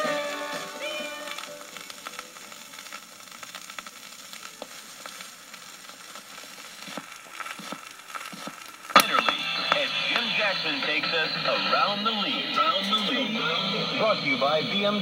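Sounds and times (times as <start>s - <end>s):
record surface hiss and crackle: 0.0s - 15.0s.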